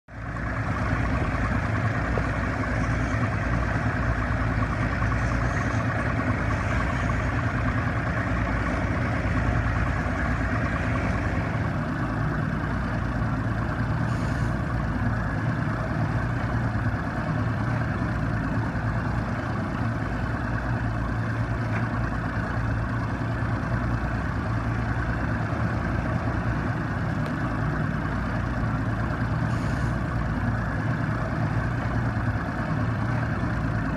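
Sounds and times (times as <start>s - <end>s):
large engine droning: 0.1s - 33.9s.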